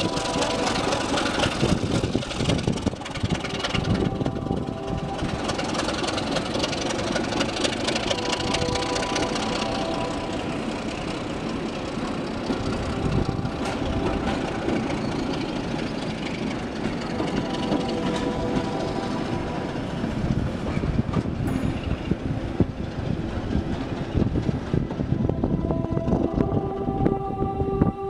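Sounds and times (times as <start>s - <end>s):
wheels clicking over rail joints: 0.0s - 25.4s
train coaches rumbling past: 0.0s - 28.0s.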